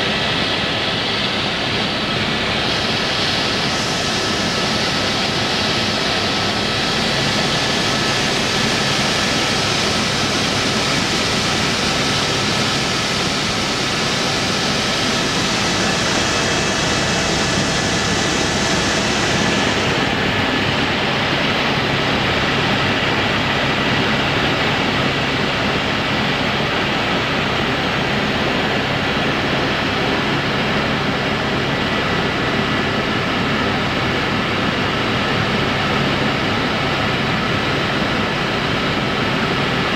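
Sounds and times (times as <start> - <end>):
faint steady whine: 0.0 - 39.9
helicopter rotor and engine noise: 0.0 - 39.9.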